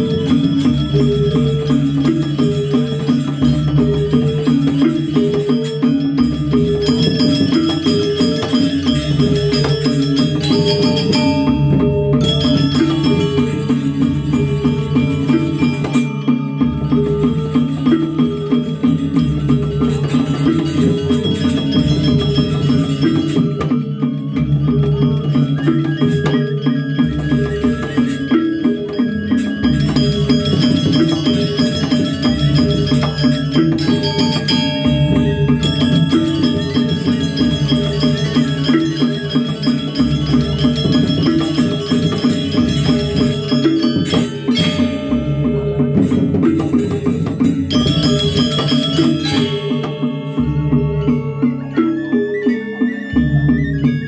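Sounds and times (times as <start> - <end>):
metallophone notes: 0.0 - 54.0.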